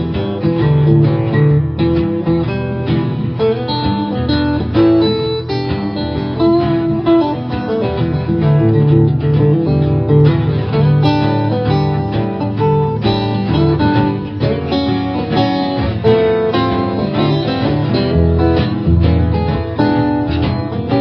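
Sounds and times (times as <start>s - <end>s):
folk band playing guitar-led: 0.0s - 21.0s.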